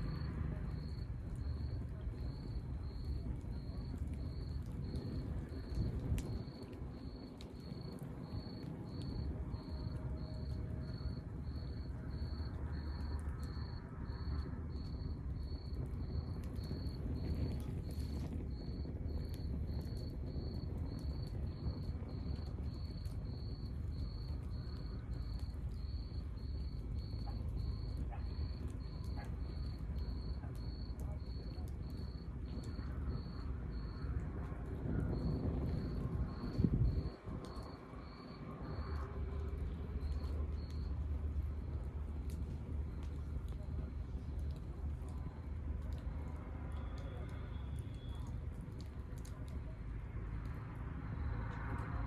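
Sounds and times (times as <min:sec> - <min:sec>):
cricket chirping: 0:00.0 - 0:34.2, 0:35.0 - 0:44.5
log fire rumbling and crackling: 0:00.0 - 0:52.0.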